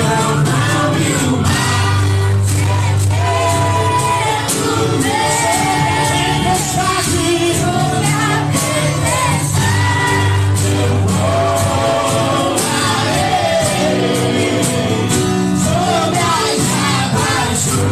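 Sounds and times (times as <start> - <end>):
band playing: 0.0 - 17.9
bass line: 0.0 - 17.9
people singing: 0.0 - 17.9
drum and cymbal hits: 0.2 - 17.9.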